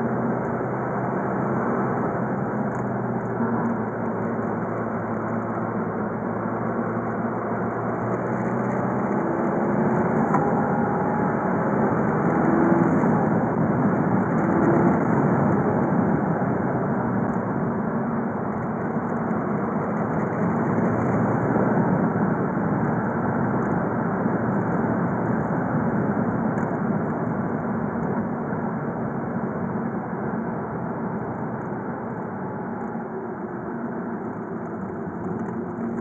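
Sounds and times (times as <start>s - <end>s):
diesel car engine rumbling: 0.0s - 36.0s
road noise: 0.0s - 36.0s.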